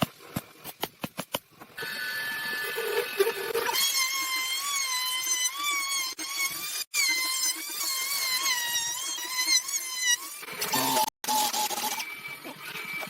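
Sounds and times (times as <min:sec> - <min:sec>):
power tool motor whining: 0:01.8 - 0:13.0.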